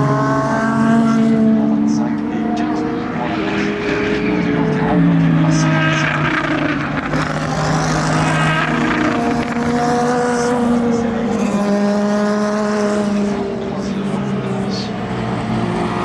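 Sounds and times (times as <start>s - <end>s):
race car engines on track: 0.0s - 16.0s.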